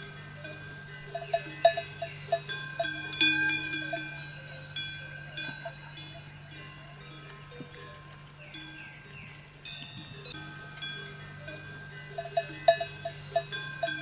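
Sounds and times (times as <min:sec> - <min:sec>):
low steady hum: 0:00.0 - 0:14.0
metal bells clanking: 0:00.0 - 0:14.0.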